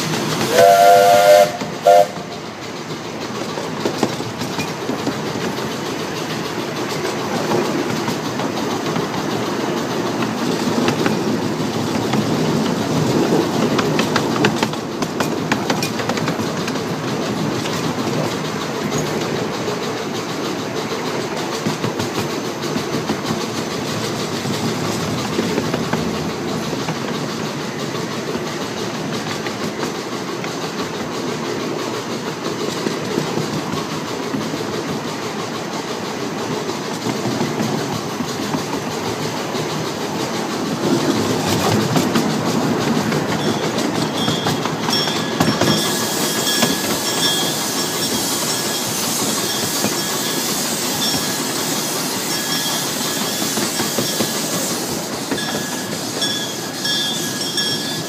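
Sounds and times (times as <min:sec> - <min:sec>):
train cars rumbling: 0:00.0 - 0:58.0
wheels clicking over rail joints: 0:00.0 - 0:58.0.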